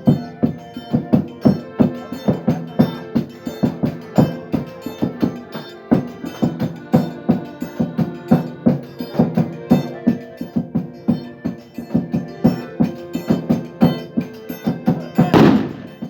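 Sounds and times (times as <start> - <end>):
music with steady drum beat: 0.0 - 16.0.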